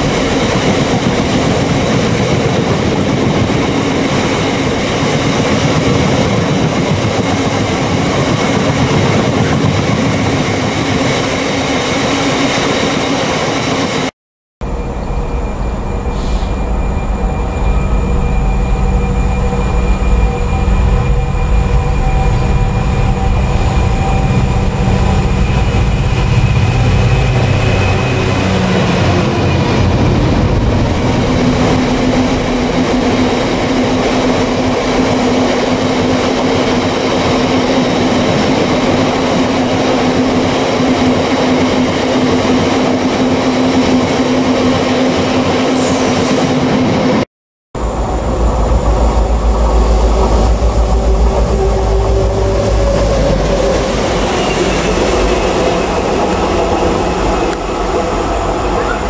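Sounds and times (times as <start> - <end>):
diesel locomotive engine: 0.0 - 47.2, 47.8 - 59.0
loud low locomotive engines: 0.0 - 47.2, 47.8 - 59.0.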